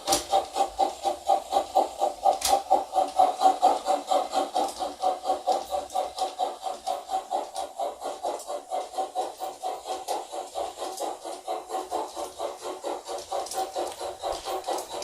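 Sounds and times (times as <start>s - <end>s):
steam locomotive chuffing from speaker: 0.0s - 15.0s.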